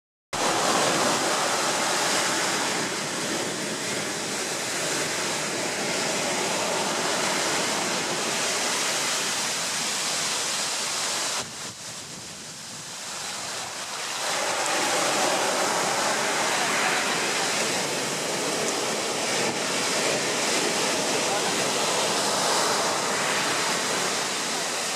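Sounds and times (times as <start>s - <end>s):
ocean surf breaking on sand: 0.4s - 24.9s.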